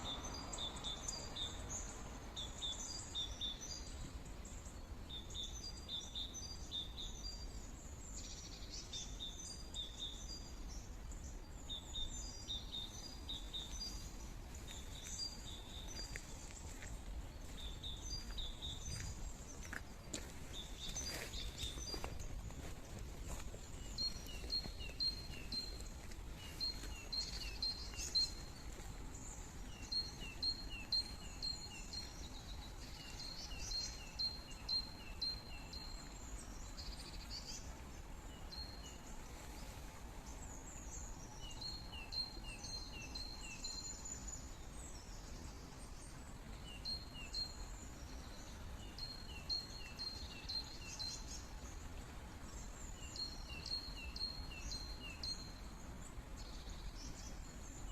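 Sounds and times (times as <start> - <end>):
songbird chirping: 0.0 - 57.9.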